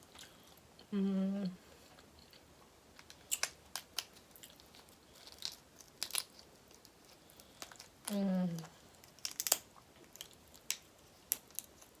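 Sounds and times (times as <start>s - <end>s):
crunching while eating seafood: 2.0s - 12.0s.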